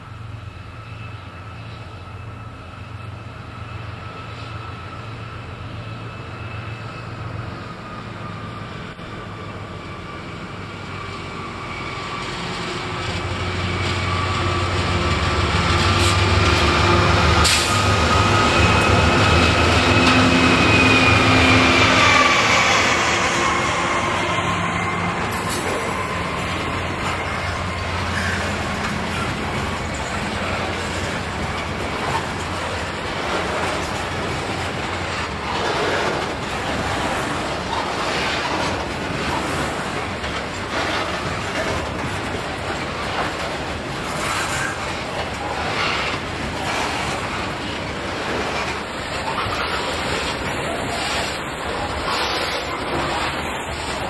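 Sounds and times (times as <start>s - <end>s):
diesel locomotive engine passing: 0.0s - 54.0s
wagon wheels rumbling on rail: 0.0s - 54.0s.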